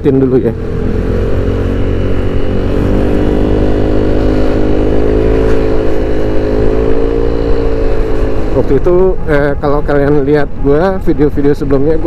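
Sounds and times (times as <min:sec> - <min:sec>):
low wind rumble: 0:00.0 - 0:12.0
scooter engine cruising: 0:00.1 - 0:12.0.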